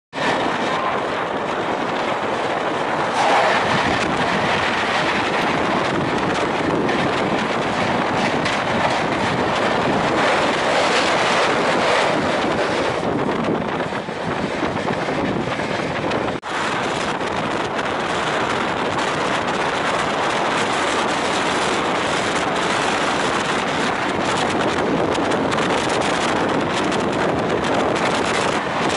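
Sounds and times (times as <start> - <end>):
clatter of wheels on rail: 0.1 - 28.9
passing train: 0.1 - 28.9
wind rushing: 0.1 - 28.9.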